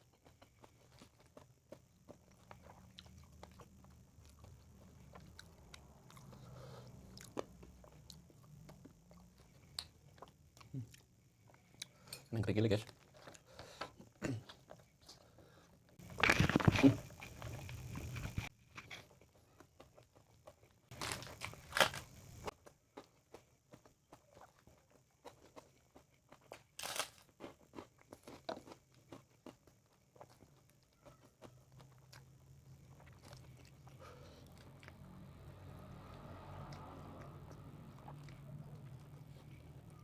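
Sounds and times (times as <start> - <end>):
crunchy bites and chewing: 0.0 - 12.0, 16.0 - 40.0.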